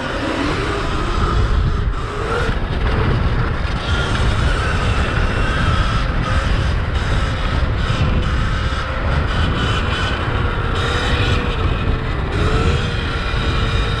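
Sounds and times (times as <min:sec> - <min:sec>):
electric motor whine: 0:00.0 - 0:14.0
wind rumble on microphone: 0:00.0 - 0:14.0.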